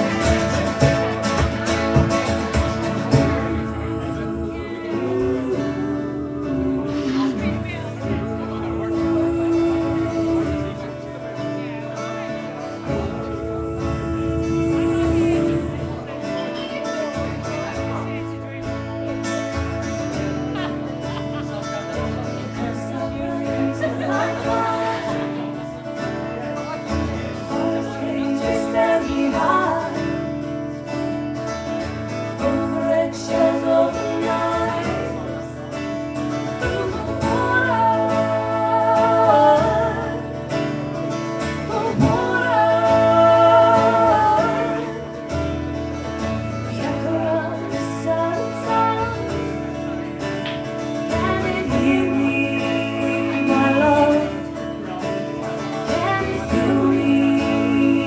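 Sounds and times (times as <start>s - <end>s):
person singing: 0.0s - 16.8s, 22.4s - 25.9s, 27.1s - 30.5s, 32.2s - 45.6s, 46.5s - 50.1s, 50.8s - 58.0s
guitar: 0.0s - 58.0s.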